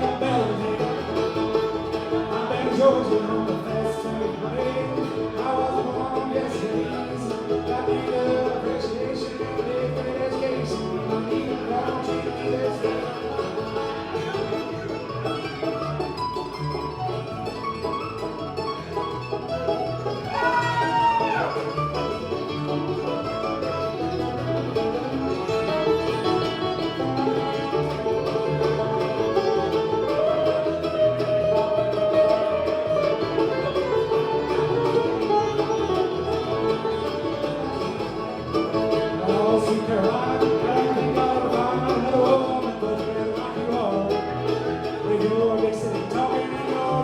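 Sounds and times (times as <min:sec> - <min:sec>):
banjo: 0:00.0 - 0:47.0
bluegrass band playing: 0:00.0 - 0:47.0.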